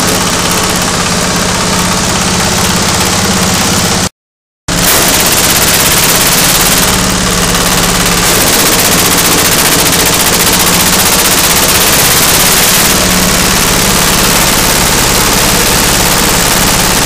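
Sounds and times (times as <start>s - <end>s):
diesel engine running: 0.0s - 4.1s, 4.7s - 17.0s.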